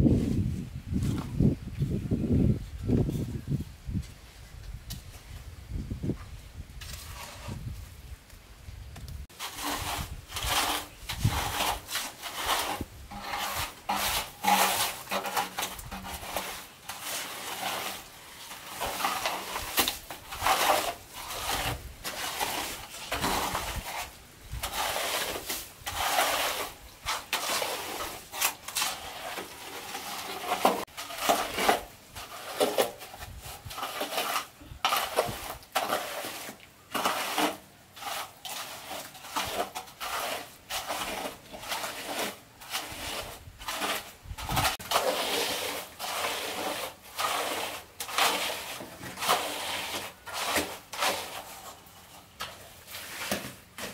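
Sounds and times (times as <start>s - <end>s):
straightedge scraping wet cement: 6.8s - 7.8s, 9.2s - 53.9s.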